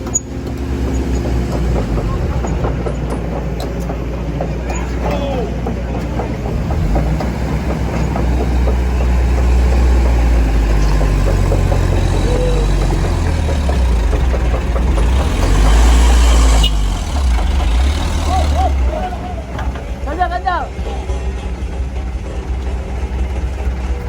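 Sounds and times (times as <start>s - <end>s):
diesel engine rumbling under load: 0.0s - 24.0s.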